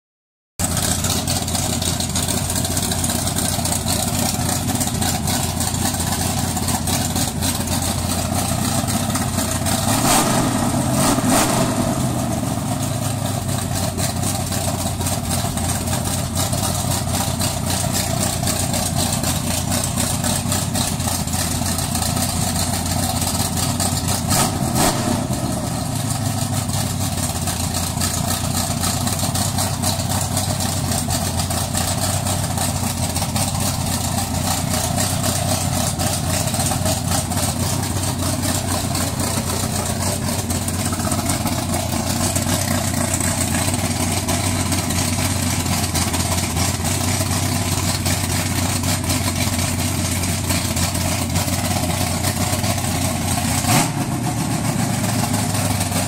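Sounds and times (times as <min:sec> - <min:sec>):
engine idling and revving: 0:00.6 - 0:56.0.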